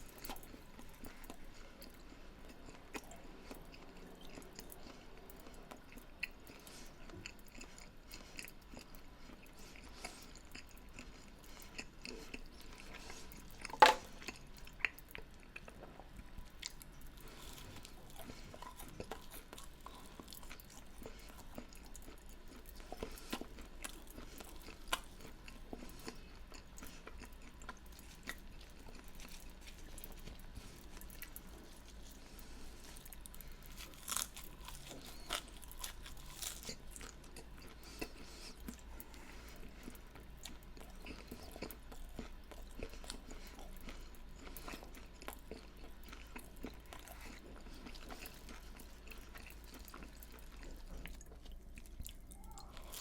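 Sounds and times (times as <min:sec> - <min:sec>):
crunchy chewing of fried food: 0:00.0 - 0:53.0.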